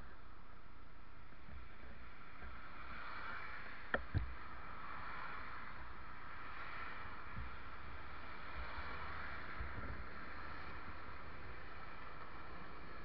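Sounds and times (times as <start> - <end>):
low unsteady rumble: 0.0 - 13.0.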